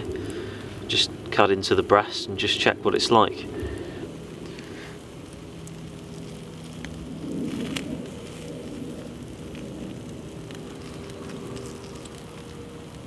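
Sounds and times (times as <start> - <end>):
campfire coals crackling: 0.0 - 13.0.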